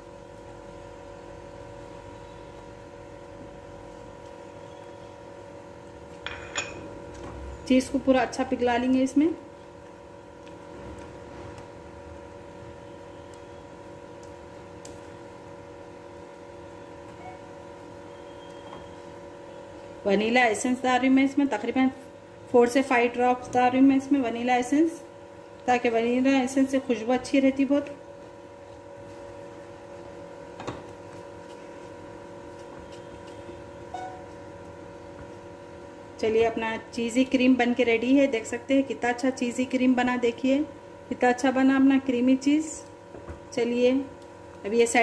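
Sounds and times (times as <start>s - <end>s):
steady electrical hum: 0.0s - 45.0s.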